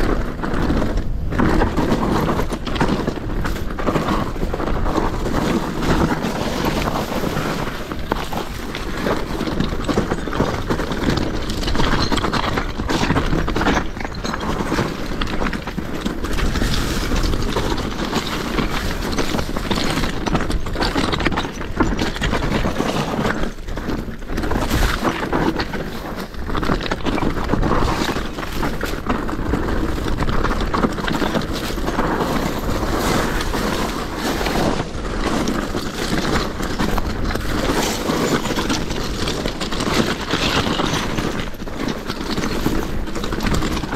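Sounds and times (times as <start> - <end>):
bike chain and frame rattling: 0.0 - 43.9
tyres crunching over gravel: 0.0 - 43.9.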